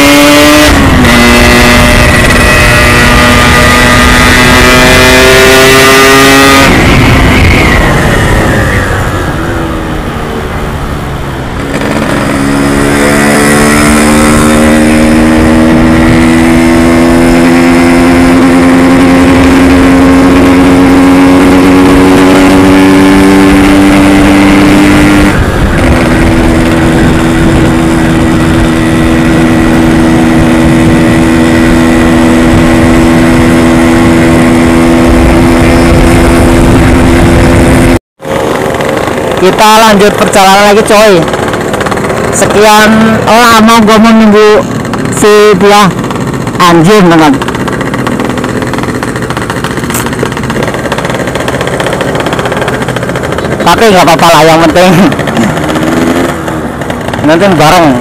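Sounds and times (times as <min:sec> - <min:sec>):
two-stroke motorcycle engine: 0:00.0 - 0:58.0.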